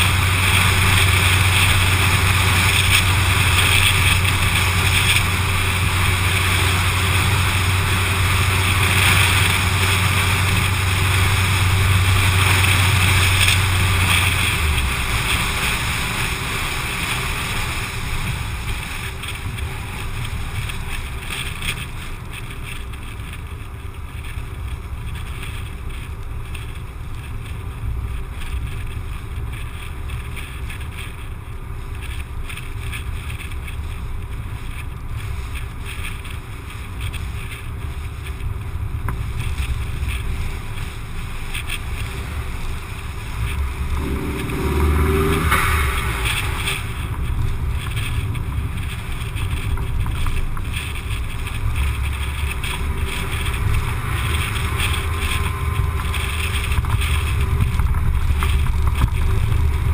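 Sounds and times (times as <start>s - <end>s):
passing lorry rush: 0.0s - 59.9s
wind and road rumble: 0.0s - 59.9s.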